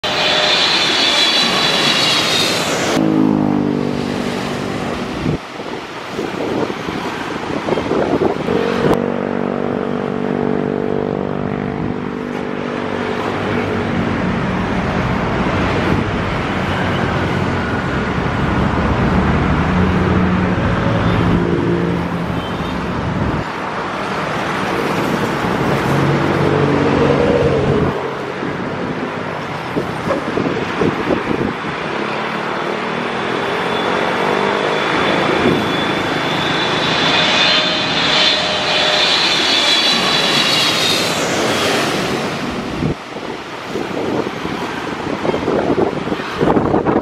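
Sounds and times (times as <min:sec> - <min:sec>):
background traffic noise: 0:00.0 - 0:47.0
vehicles passing: 0:00.0 - 0:47.0.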